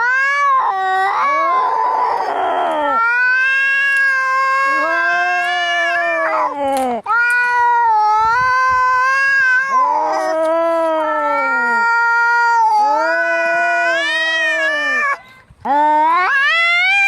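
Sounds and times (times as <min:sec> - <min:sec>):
cats yowling in a fight: 0:00.0 - 0:15.2, 0:16.0 - 0:17.0.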